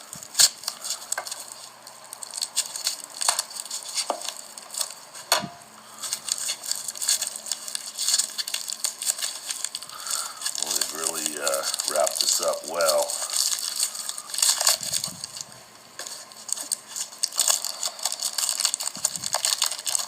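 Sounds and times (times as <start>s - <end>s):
wrapping crinkling and crackling: 0.0s - 20.0s.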